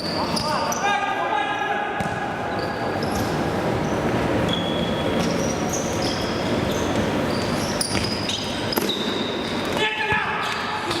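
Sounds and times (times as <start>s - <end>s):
sports shoes squeaking on court: 0.0s - 0.8s, 2.0s - 11.0s.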